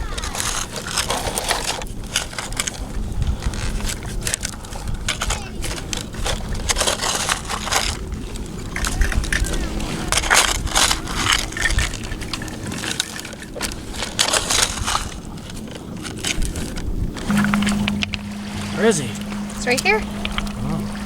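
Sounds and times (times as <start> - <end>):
beach stones crunching and scraping: 0.0 - 20.9.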